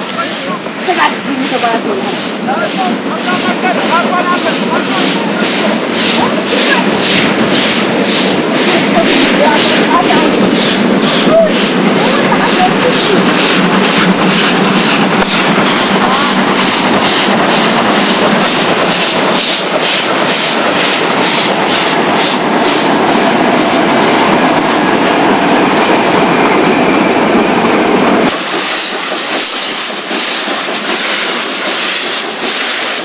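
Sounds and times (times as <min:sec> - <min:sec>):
steam locomotive chuffing: 0:00.0 - 0:33.0.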